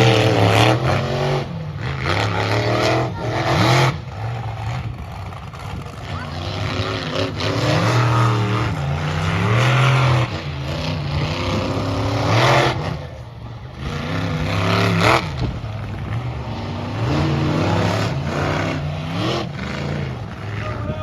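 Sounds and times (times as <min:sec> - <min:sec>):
monster truck engines revving: 0:00.0 - 0:21.0.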